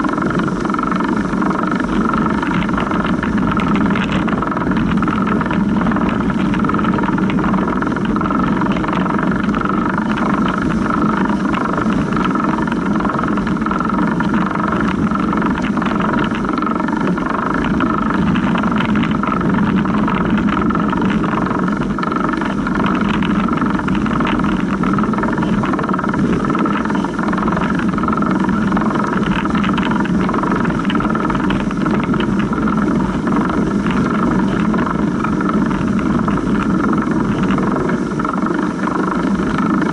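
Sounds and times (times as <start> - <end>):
bicycle chain ticking and rattling: 0.0 - 39.9.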